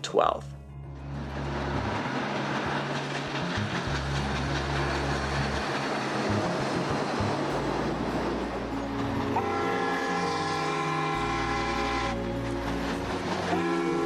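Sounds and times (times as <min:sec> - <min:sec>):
steam train running past: 0:00.9 - 0:14.0.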